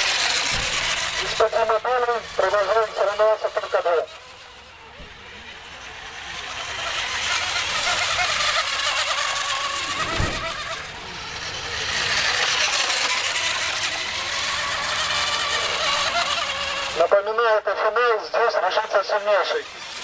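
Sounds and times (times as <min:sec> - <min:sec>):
racing boats high-pitched whine: 0:00.0 - 0:20.0.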